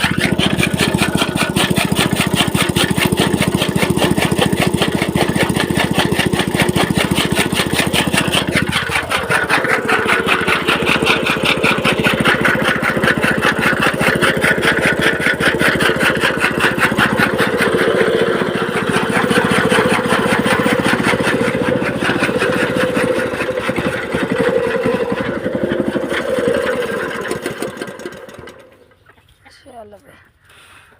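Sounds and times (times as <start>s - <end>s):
small petrol engine running: 0.0s - 29.6s.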